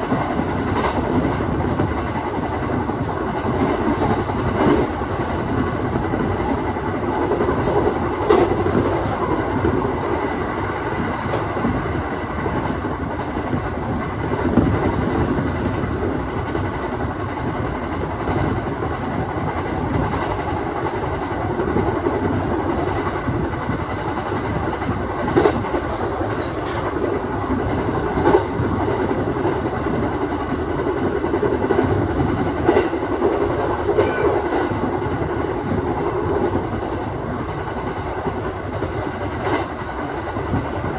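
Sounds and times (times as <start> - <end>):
rail joint clacks: 0.0 - 40.9
train wheels rumbling on rail: 0.0 - 40.9.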